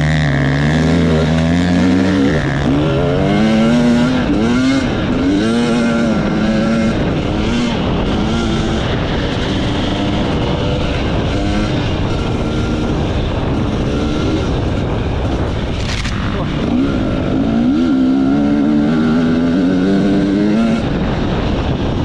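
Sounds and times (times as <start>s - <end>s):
constant rushing noise: 0.0s - 22.0s
motorcycle engine revving: 0.0s - 22.0s.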